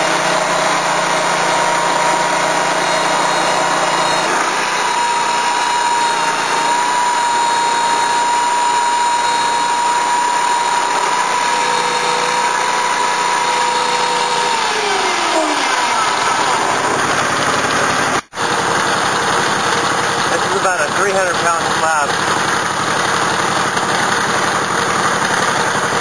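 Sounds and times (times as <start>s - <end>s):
sawmill blade cutting wood: 0.0s - 26.0s.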